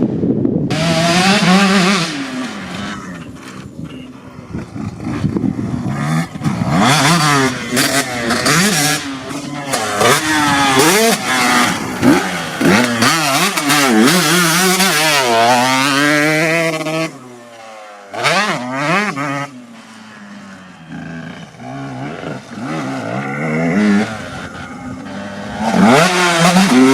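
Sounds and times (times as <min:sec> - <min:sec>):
motocross bike engine revving: 0:00.7 - 0:26.9.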